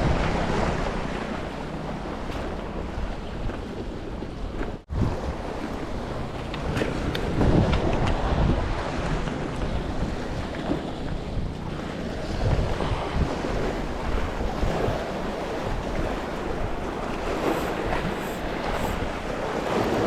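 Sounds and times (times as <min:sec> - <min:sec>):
sea waves: 0:00.0 - 0:20.0
wind buffeting microphone: 0:00.0 - 0:20.0.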